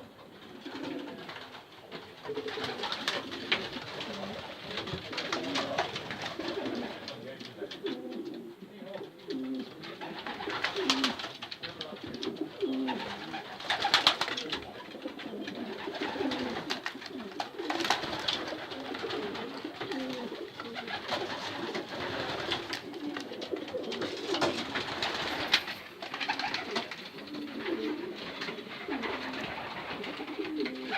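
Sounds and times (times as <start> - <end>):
pigeons cooing: 0.0 - 30.9
wings fluttering: 0.6 - 7.2, 9.8 - 30.9.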